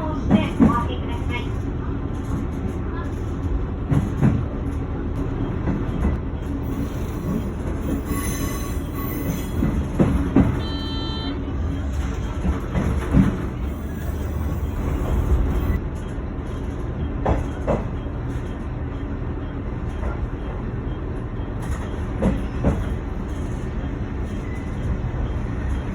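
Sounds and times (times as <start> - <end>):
train rumbling on track: 0.0 - 25.9.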